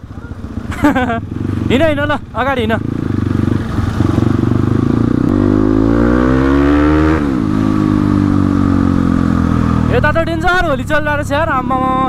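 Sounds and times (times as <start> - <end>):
dirt bike engine accelerating: 0.1 - 10.6.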